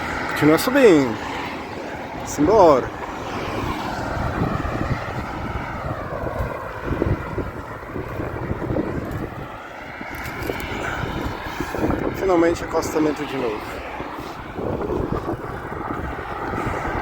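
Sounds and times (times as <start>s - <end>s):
road traffic rushing past: 0.0s - 17.0s
wind buffeting microphone: 0.0s - 17.0s.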